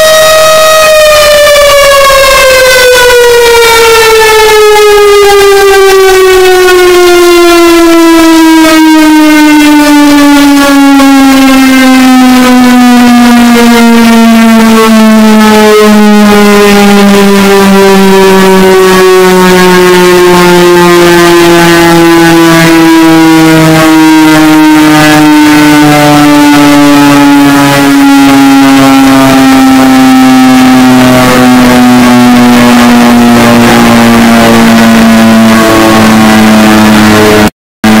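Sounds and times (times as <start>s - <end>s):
distorted siren winding down: 0.0s - 38.0s.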